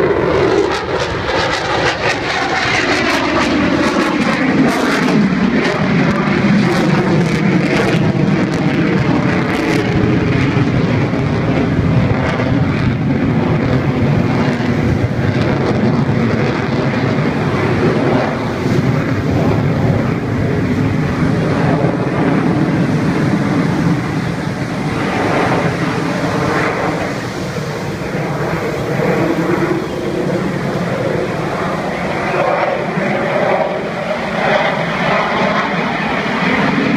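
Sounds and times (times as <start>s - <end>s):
jet engines roaring in flight: 0.0s - 36.9s.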